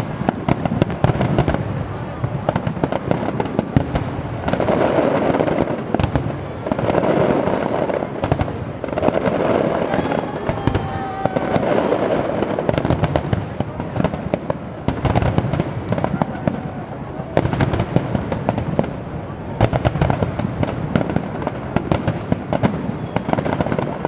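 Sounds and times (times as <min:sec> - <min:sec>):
fireworks crackling: 0:00.0 - 0:24.0
sharp fireworks bangs: 0:00.0 - 0:24.0.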